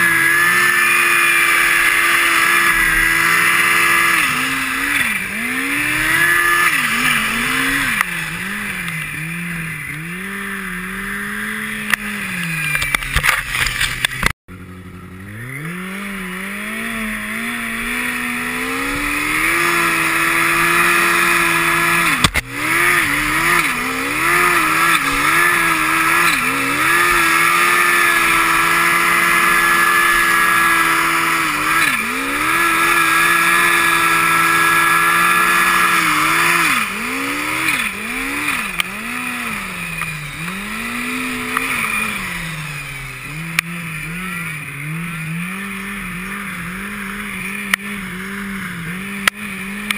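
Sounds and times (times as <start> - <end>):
snowmobile engine revving: 0.0 - 49.9.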